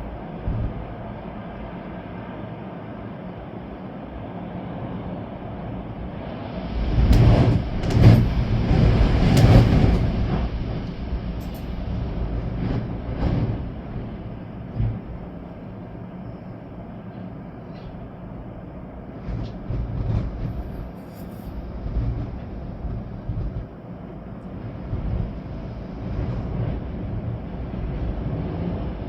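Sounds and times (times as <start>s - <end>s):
storm wind gusting: 0.0s - 29.0s
wind buffeting microphone: 0.0s - 29.0s.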